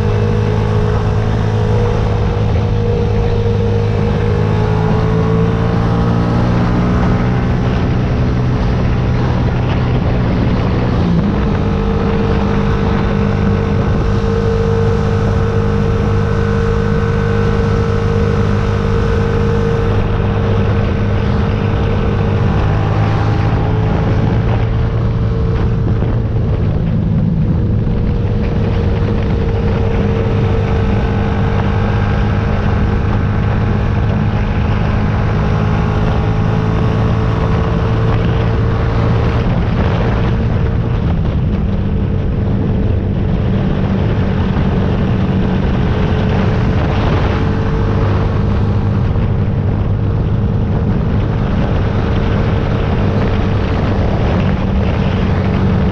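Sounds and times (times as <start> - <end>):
motorcycle engine cruising: 0.0 - 55.9
wind rush: 0.0 - 55.9.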